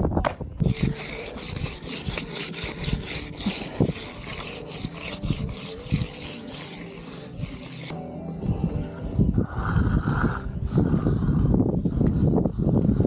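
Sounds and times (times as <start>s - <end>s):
tool scraping concrete: 0.6s - 8.0s, 9.7s - 13.0s.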